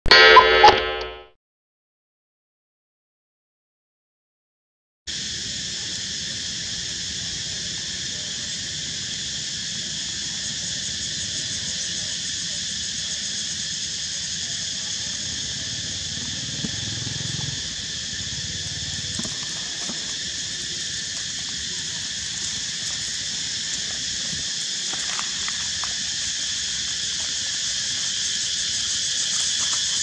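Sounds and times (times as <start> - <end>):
insects buzzing: 5.1 - 30.0.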